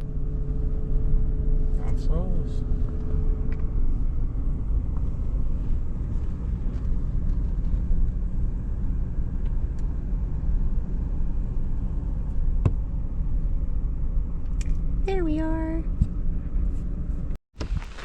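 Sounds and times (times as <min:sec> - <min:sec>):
car cabin rumble: 0:00.0 - 0:18.0.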